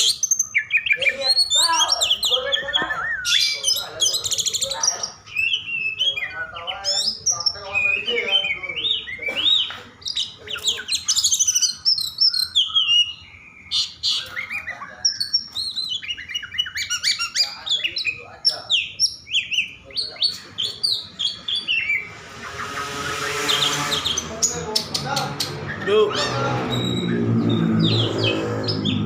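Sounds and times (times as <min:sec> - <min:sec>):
bird singing fast varied song: 0:00.0 - 0:29.0.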